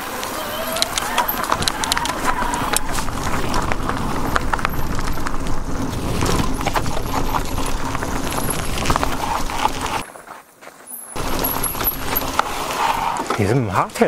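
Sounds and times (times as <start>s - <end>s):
bike clattering over roots: 0.0s - 14.0s.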